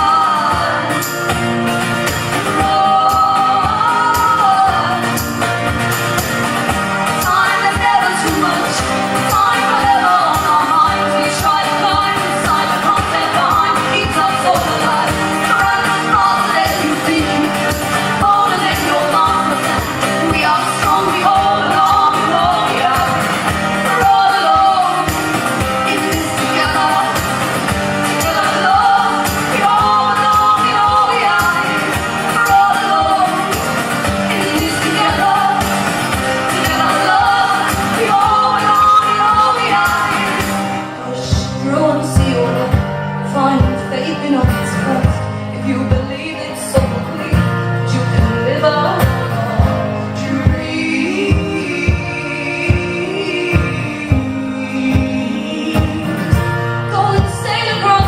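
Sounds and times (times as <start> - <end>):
strummed guitars: 0.0 - 58.0
voices singing: 0.0 - 58.0.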